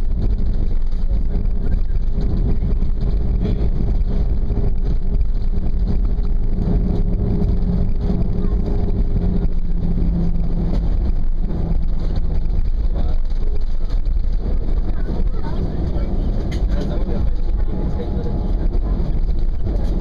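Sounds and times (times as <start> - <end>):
low rumble of engines and wheels: 0.0 - 20.0.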